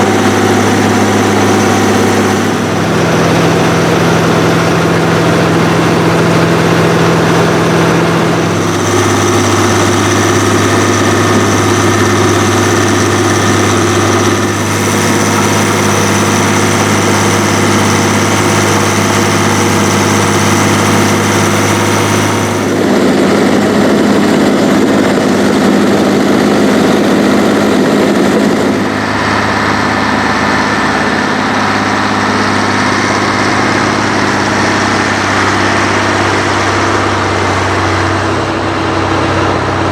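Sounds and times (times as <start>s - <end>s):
heavy diesel engines under load: 0.0s - 39.9s.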